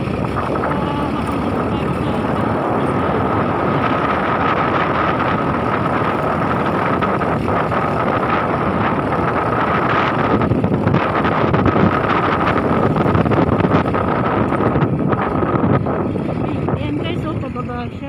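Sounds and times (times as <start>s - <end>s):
road and wind noise: 0.0s - 18.0s
steady whine: 0.0s - 18.0s
vehicle engine running: 0.0s - 18.0s.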